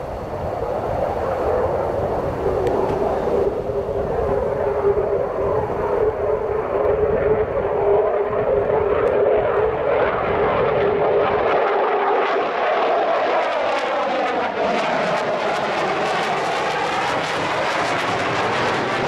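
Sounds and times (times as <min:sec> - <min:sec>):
fighter jet engines roaring: 0:00.0 - 0:19.0.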